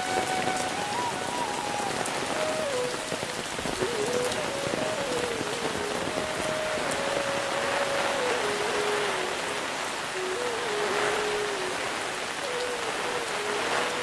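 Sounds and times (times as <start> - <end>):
heavy rain: 0.0 - 14.0
raindrops hitting umbrella: 0.0 - 14.0.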